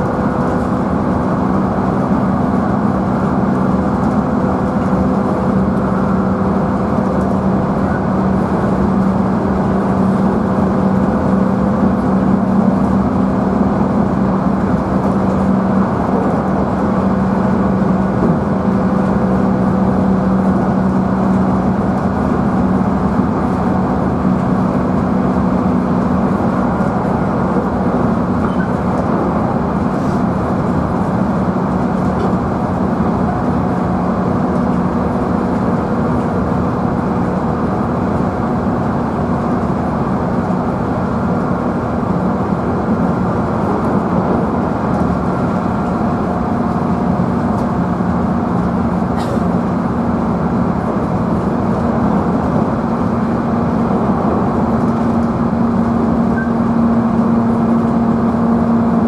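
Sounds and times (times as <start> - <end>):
train motor hum: 0.0 - 59.0
wheels rolling on rail: 0.0 - 59.0.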